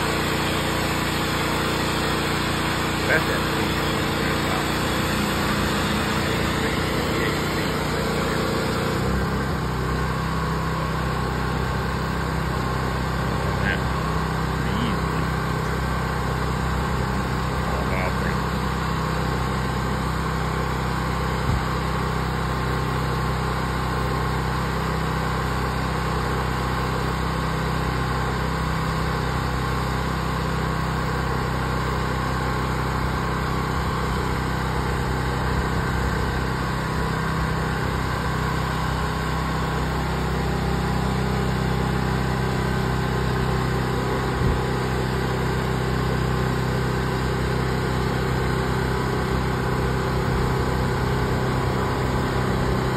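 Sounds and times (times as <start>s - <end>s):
pressure washer engine running: 0.0s - 52.9s.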